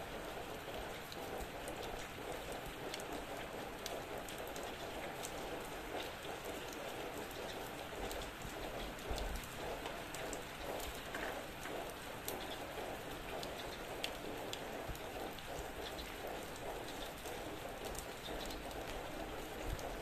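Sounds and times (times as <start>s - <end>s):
rain pattering on surfaces: 0.0s - 20.0s.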